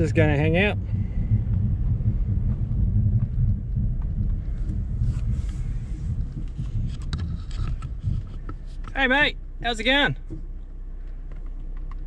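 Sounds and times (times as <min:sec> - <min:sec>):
engine and road rumble in cabin: 0:00.0 - 0:12.0.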